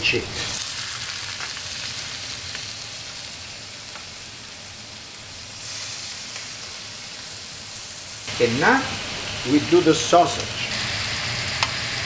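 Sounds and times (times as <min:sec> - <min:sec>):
chicken sizzling in hot oil: 0:00.1 - 0:12.0.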